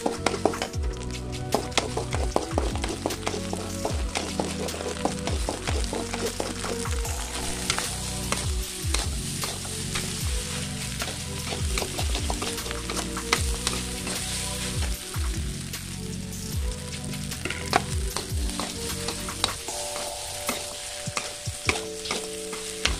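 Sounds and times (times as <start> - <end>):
metal spatula scraping a wok: 0.0 - 22.9
rice sizzling in a wok: 0.0 - 22.9.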